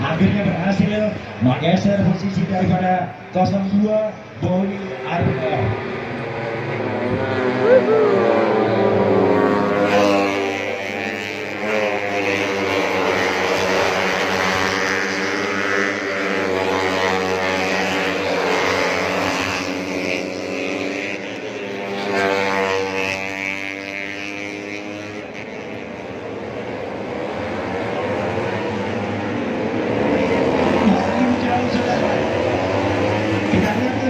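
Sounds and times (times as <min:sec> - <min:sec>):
racing motorcycles at high revs: 0:05.2 - 0:34.0.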